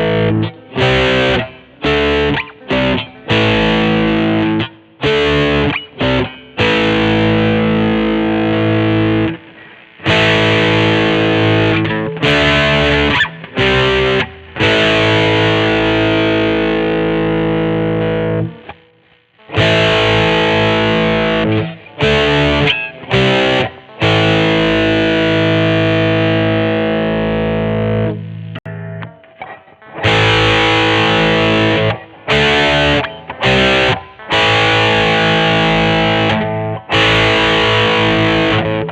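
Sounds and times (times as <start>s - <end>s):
distorted electric guitar chords: 0.0s - 38.9s.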